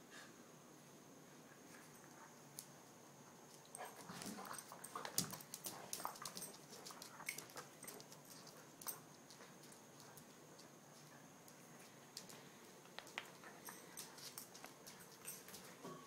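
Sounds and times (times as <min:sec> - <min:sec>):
dogs scuffling and mouthing: 0:01.6 - 0:16.0.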